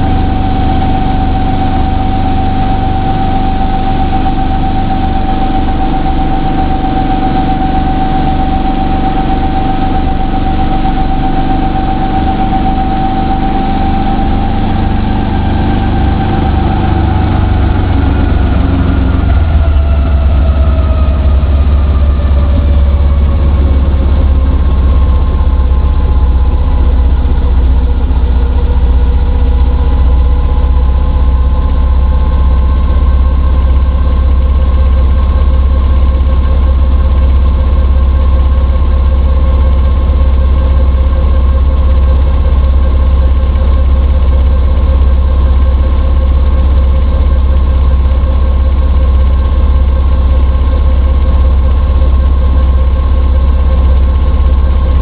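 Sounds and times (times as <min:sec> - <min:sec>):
helicopter engine idling: 0:00.0 - 0:55.0.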